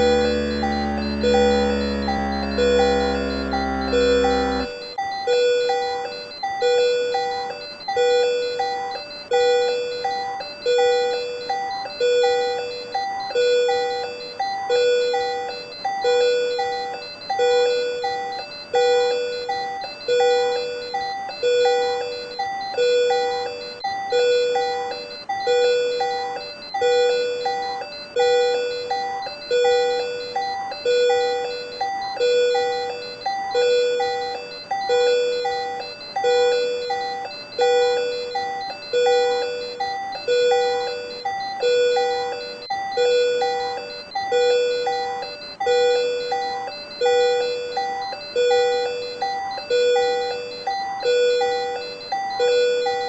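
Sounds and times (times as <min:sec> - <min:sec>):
patient monitor alarm chiming: 0:00.0 - 0:53.0.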